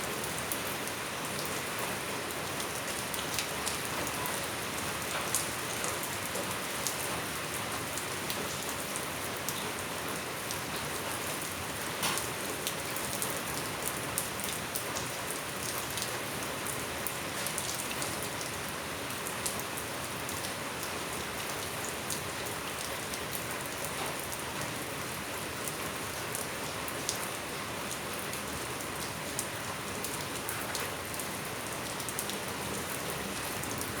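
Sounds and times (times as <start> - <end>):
rain pattering: 0.0 - 34.0.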